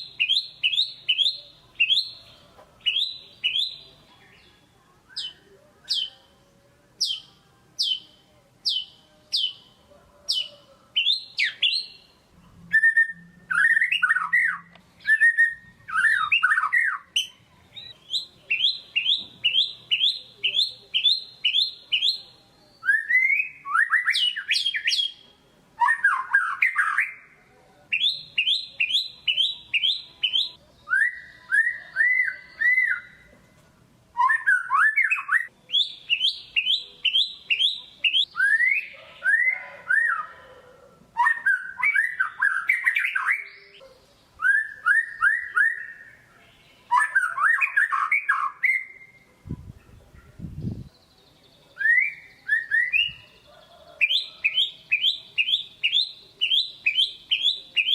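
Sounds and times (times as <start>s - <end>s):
songbird singing varied song: 0.0s - 33.3s, 34.1s - 40.5s, 41.1s - 57.9s.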